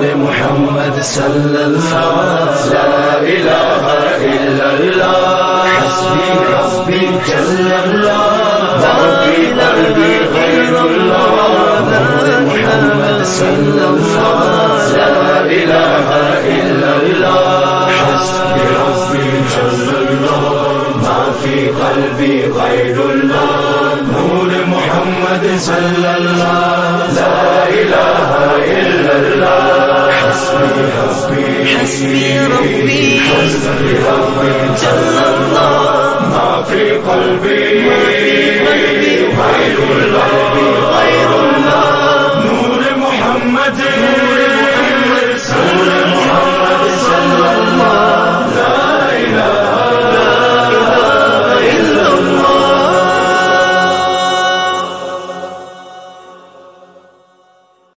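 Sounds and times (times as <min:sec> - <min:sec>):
steady held drone: 0:00.0 - 0:57.3
voices chanting a slow melody: 0:00.0 - 0:57.9.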